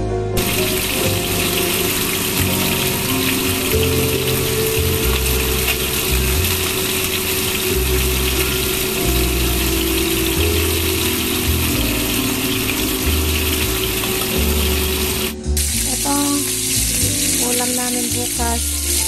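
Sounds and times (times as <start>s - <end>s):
low background music: 0.0s - 19.0s
fish sizzling in hot oil: 0.4s - 19.0s.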